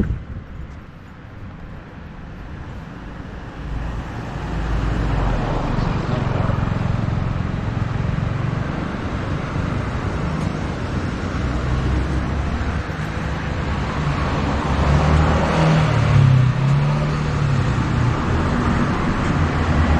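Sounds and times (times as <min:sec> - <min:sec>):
street traffic: 0:00.0 - 0:19.9
vehicle passing close: 0:03.8 - 0:19.9.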